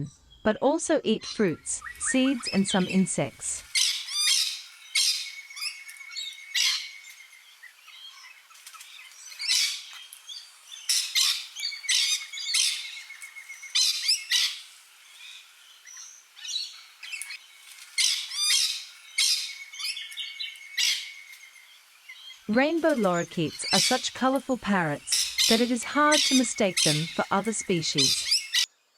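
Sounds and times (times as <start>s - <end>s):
lorikeets screeching: 1.2s - 28.7s.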